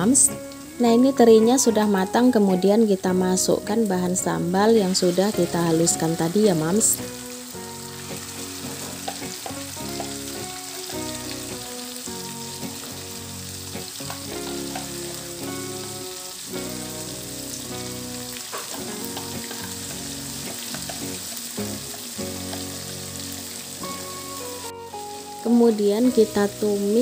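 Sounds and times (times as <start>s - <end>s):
background music with held notes: 0.0s - 27.0s
chili paste sizzling in oil: 0.0s - 27.0s.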